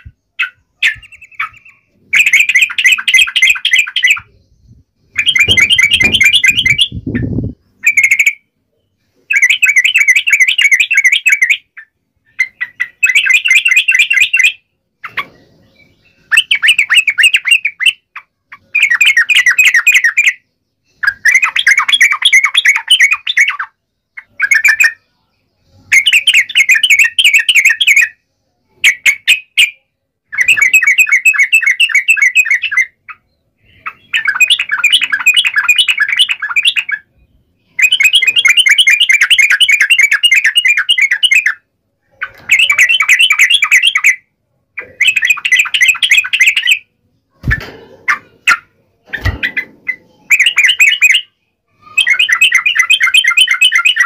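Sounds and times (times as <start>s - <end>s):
birds chattering: 0.0s - 54.0s.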